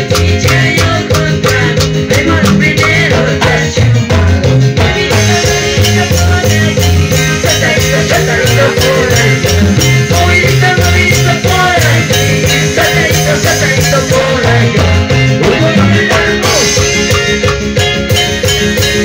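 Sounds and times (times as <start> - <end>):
loud dance music: 0.0 - 19.0.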